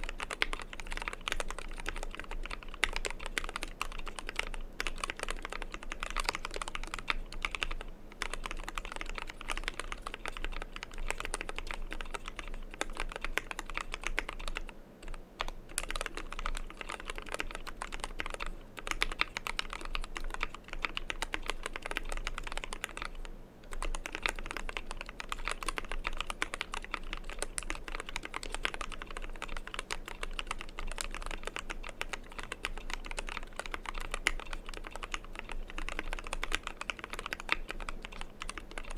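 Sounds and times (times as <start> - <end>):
rapid mechanical keyboard typing: 0.0 - 38.9.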